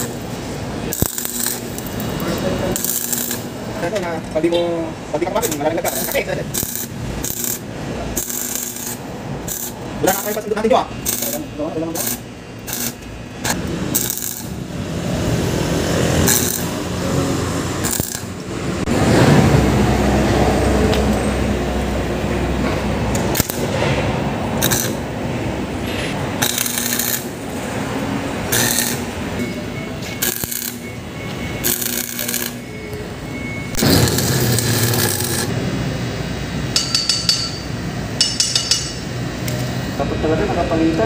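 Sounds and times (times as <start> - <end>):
welding arc crackling: 0.0 - 20.2, 20.8 - 41.0.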